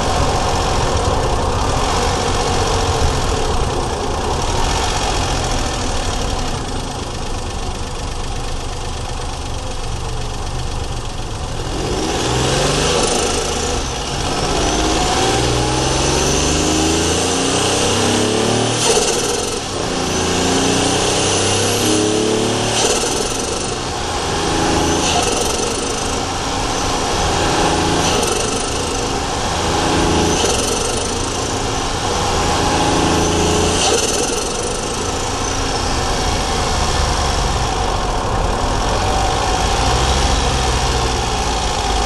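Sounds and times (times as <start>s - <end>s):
car engine accelerating: 0.0s - 42.0s.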